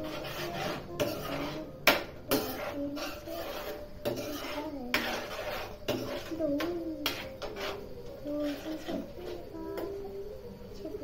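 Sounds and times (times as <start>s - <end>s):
metal spoon scraping frying pan: 0.0s - 9.5s.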